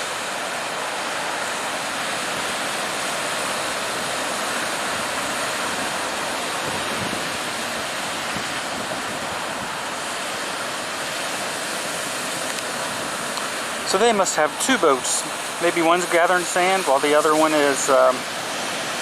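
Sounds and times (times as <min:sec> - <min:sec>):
ocean surf washing onto beach: 0:00.0 - 0:19.0
wind: 0:00.0 - 0:19.0.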